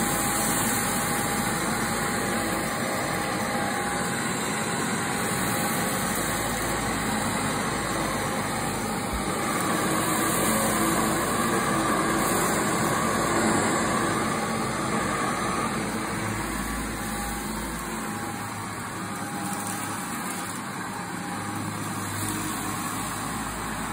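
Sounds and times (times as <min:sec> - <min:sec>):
vacuum cleaner on carpet: 0:00.0 - 0:23.9.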